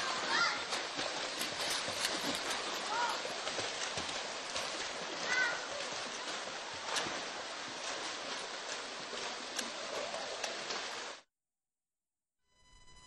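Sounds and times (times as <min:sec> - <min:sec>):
swimmers splashing water: 0:00.0 - 0:11.2.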